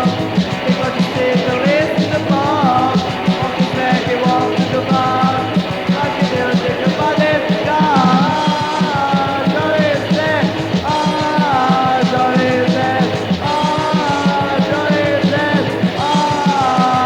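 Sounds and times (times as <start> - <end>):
fast steady drumbeat: 0.0 - 17.0
hardcore punk song: 0.0 - 17.0.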